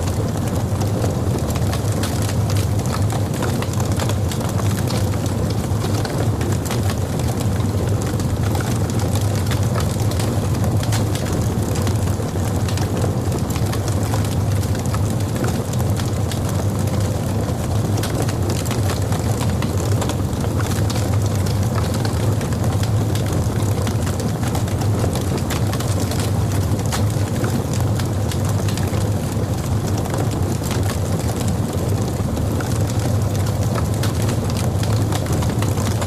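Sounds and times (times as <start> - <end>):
fire crackles and pops: 0.0 - 36.0
fire rumbling: 0.0 - 36.0.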